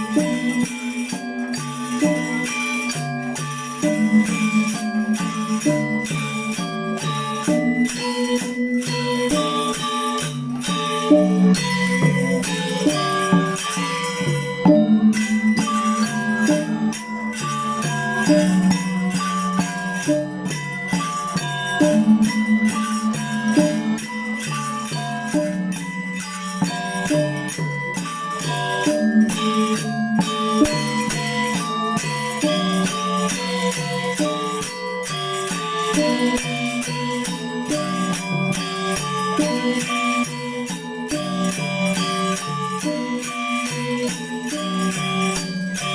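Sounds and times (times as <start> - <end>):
gamelan ensemble playing: 0.0 - 45.9.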